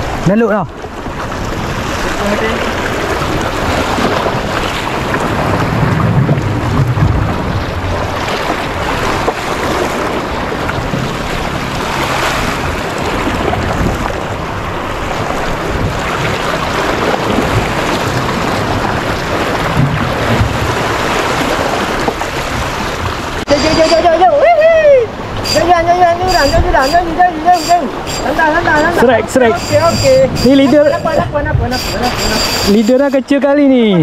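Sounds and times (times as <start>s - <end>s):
wind buffeting microphone: 0.0s - 33.3s
waves splashing on rocks: 0.0s - 34.0s.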